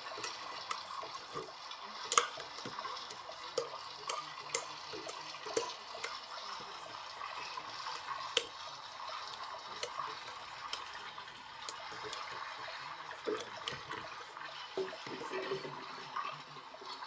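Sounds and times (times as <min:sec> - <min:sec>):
water sloshing in washing machine: 0:00.0 - 0:17.0.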